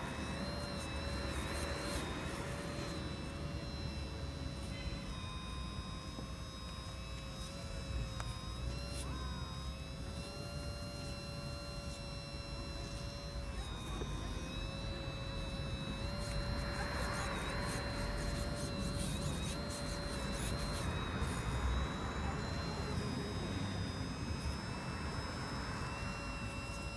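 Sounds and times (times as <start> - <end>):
electric hydraulic pump whining: 0.0 - 26.9.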